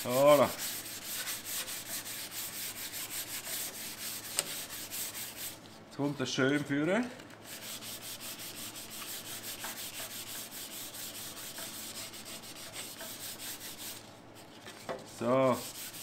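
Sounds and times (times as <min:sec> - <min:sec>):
sanding pad rubbing metal panel: 0:00.0 - 0:05.6, 0:07.5 - 0:14.1, 0:15.2 - 0:16.0.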